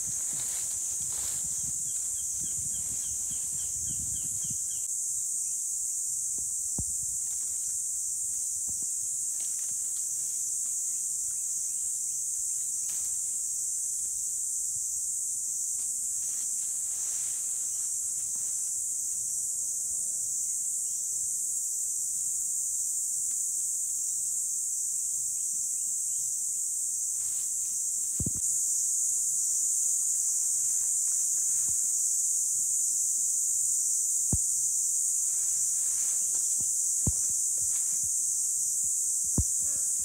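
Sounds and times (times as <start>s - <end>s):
high-pitched insect drone: 0.0s - 21.0s, 22.5s - 40.0s.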